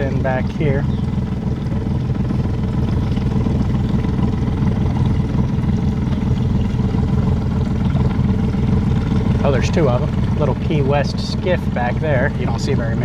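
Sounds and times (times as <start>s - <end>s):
boat engine humming: 0.0s - 13.0s
faint water wash: 0.0s - 13.0s.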